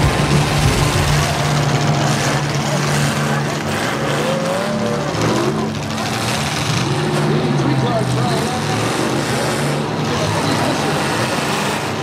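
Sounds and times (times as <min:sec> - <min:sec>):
arena crowd noise: 0:00.0 - 0:12.0
car engines droning: 0:00.0 - 0:12.0.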